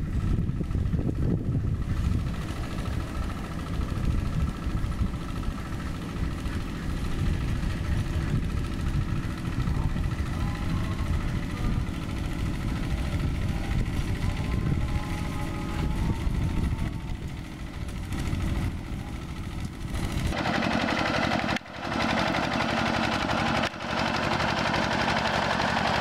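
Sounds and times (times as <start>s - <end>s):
diesel engine chugging: 0.0s - 26.0s.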